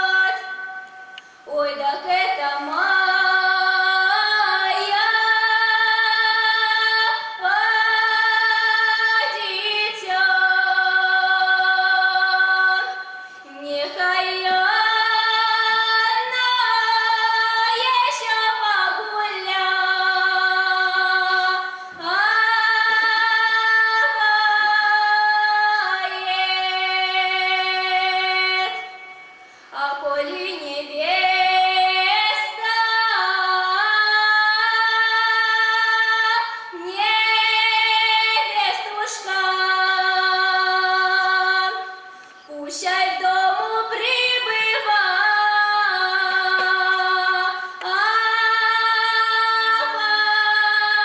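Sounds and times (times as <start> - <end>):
woman singing unaccompanied: 0.0 - 0.8, 1.5 - 29.1, 29.7 - 51.0.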